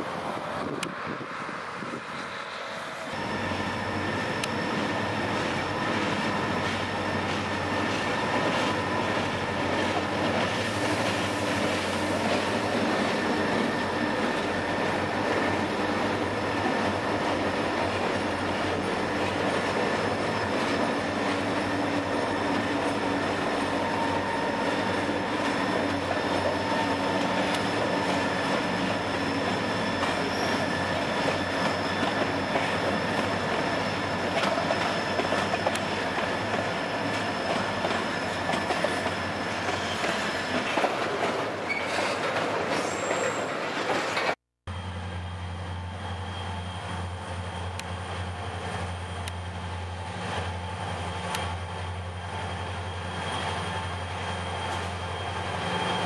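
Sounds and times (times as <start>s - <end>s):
diesel locomotive engines running: 0.0s - 56.0s
wheels rumbling and clattering on rails: 0.0s - 56.0s
high squeal from train wheels: 1.1s - 56.0s.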